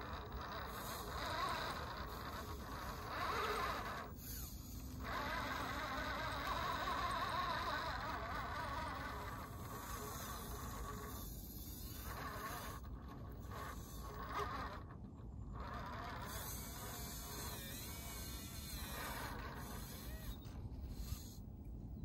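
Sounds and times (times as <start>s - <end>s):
electric motor and drivetrain whine: 0.0s - 21.8s.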